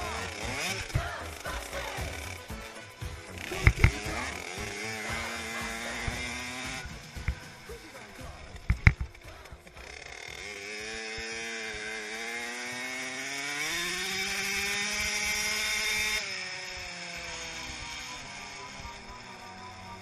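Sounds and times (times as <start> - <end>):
two-stroke motorbike engine revving: 0.0 - 20.0.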